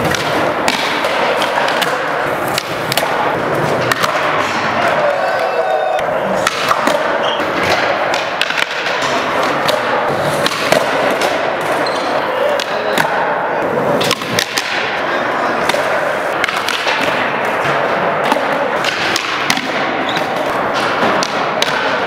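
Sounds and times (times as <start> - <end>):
skateboards clacking and thudding: 0.0 - 22.0.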